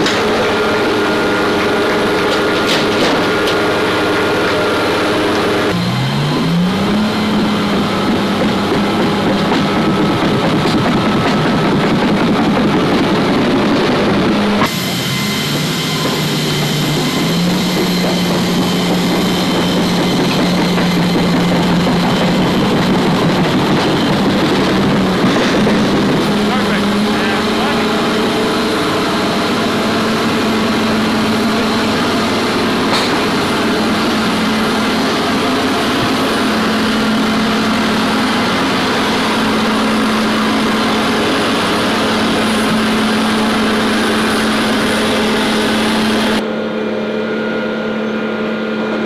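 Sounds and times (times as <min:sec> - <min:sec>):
loud machinery and engine noise: 0:00.0 - 0:49.0
motor hum rising in pitch: 0:00.0 - 0:49.0.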